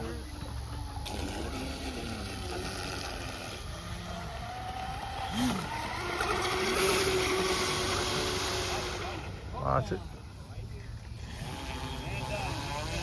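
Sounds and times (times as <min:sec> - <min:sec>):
electric boat motor whining: 0:00.0 - 0:10.1, 0:11.1 - 0:13.0.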